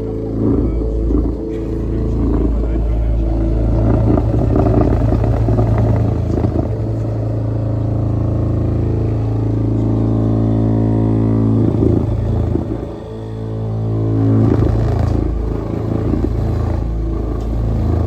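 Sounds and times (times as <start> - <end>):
plate compactor vibrating drone: 0.0 - 18.0.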